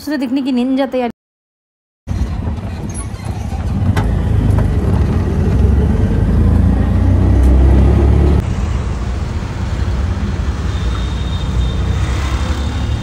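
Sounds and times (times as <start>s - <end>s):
engine and road noise rumble: 2.1s - 13.0s.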